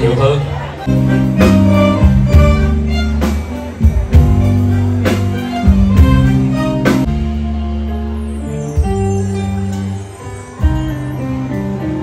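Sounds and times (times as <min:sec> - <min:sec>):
keyboard chords: 0:00.7 - 0:12.0
bass line: 0:00.9 - 0:12.0.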